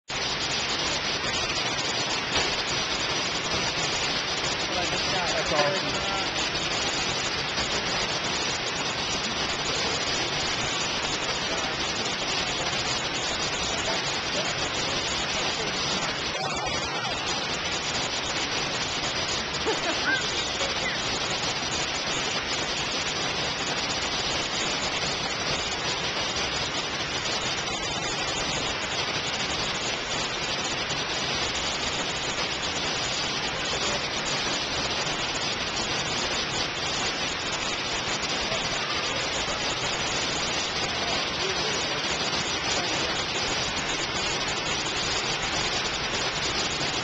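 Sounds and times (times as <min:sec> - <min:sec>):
waterfall rushing: 0:00.1 - 0:47.0.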